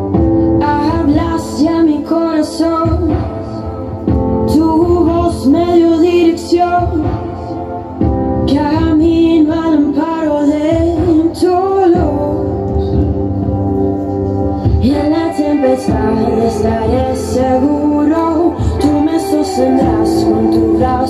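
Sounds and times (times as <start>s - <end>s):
woman singing worship song: 0.0s - 13.6s, 14.6s - 21.0s.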